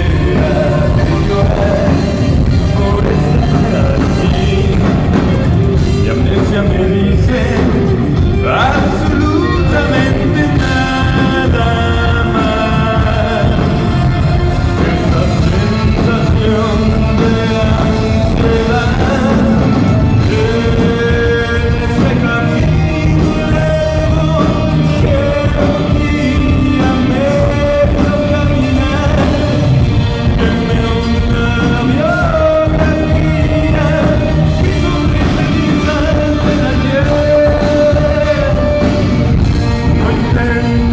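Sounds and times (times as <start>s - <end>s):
rock song with singing: 0.0s - 40.9s.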